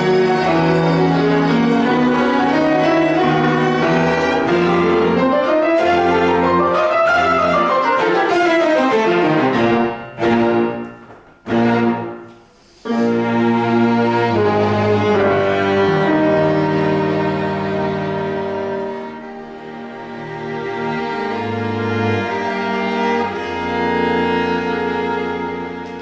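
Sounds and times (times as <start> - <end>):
piano quartet playing classical music: 0.0 - 26.0.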